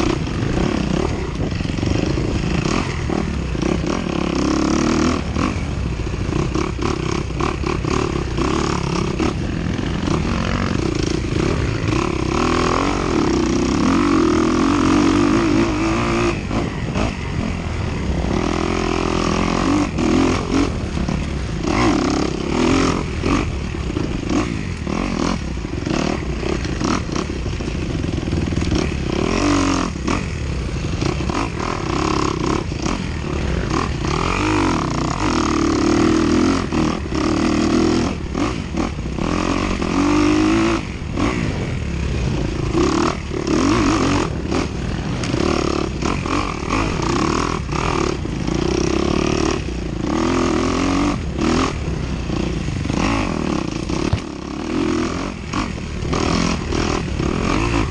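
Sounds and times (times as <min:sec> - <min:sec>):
dirt bike engine revving: 0:00.0 - 0:57.9
sharp rattles and knocks: 0:00.0 - 0:57.9.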